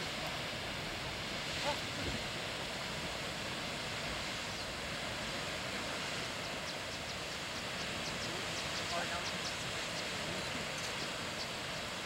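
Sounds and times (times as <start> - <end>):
geyser rushing hiss: 0.0 - 12.0.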